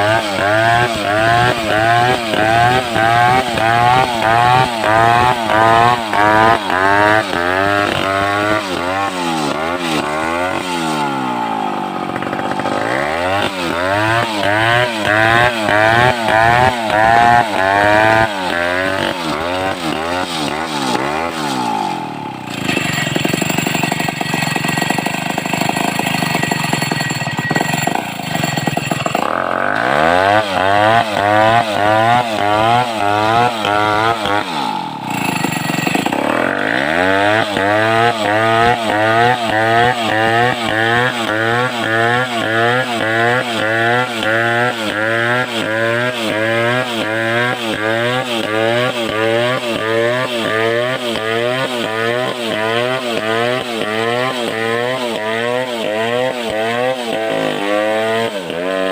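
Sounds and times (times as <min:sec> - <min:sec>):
chainsaw revving and cutting: 0:00.0 - 0:58.9.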